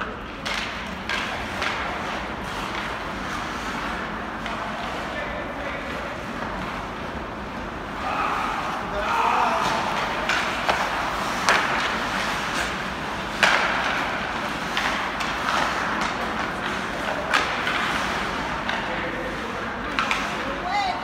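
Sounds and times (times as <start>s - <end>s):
hockey sticks and puck clacking: 0.0s - 21.0s
skates scraping ice: 0.1s - 21.0s.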